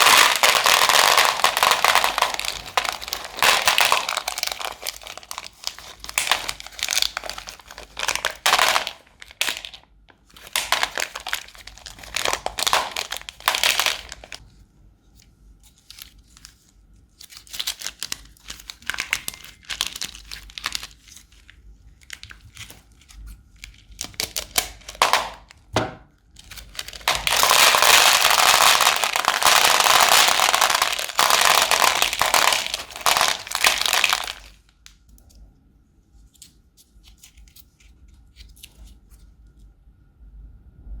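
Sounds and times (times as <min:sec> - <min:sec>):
crunchy slime crackling in plastic bags: 0:00.0 - 0:14.4, 0:15.6 - 0:25.7, 0:26.3 - 0:35.0.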